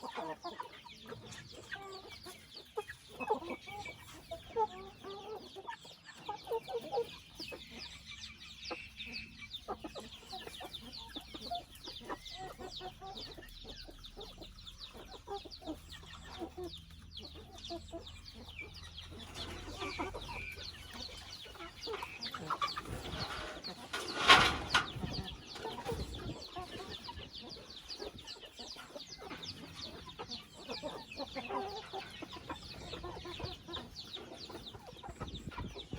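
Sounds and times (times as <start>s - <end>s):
chickens clucking: 0.0s - 35.9s.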